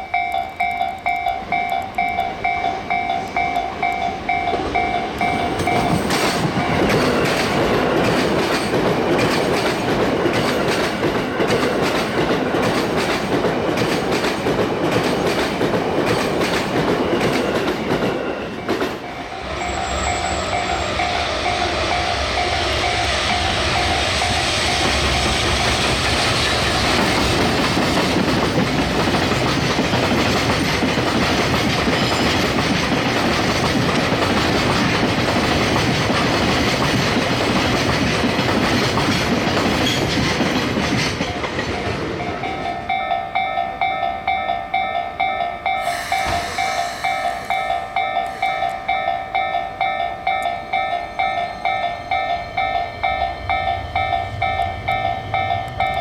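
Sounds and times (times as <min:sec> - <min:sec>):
crossing warning bell ringing: 0:00.0 - 0:56.0
train wheels on rails: 0:00.0 - 0:56.0.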